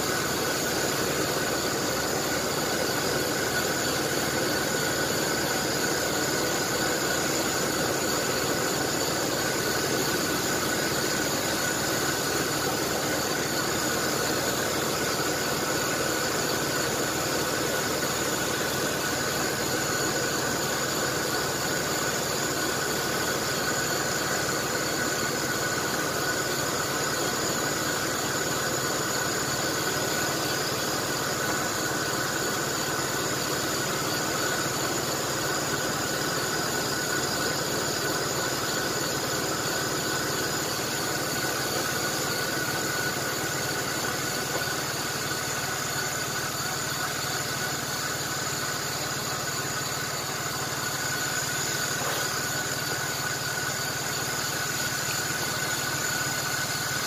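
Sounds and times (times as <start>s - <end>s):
car engine idling: 0.0s - 57.0s
high-pitched whine: 0.0s - 57.0s.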